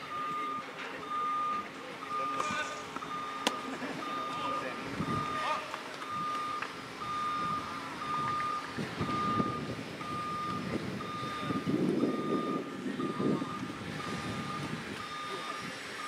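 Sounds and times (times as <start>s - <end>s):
vehicle reversing alarm beeping: 0.0s - 16.0s.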